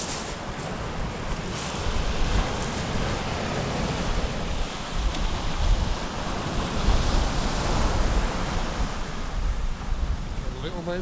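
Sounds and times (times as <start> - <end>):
sea waves washing on beach: 0.0 - 11.0
wind buffeting microphone: 0.0 - 11.0.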